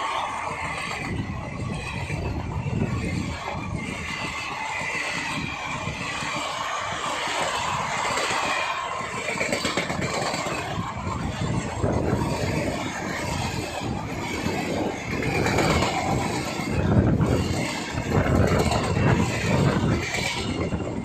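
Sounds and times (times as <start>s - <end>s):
train coaches rattling: 0.0s - 21.0s
train wheels rumbling on rails: 0.0s - 21.0s.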